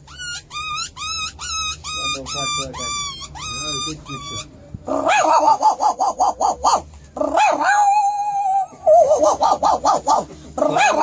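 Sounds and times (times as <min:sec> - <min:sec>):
dog yipping: 0:00.0 - 0:11.0.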